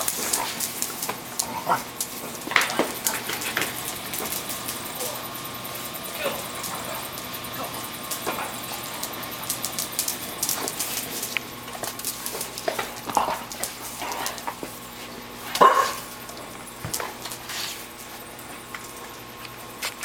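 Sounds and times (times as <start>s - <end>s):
dogs barking and yipping: 0.0s - 19.8s.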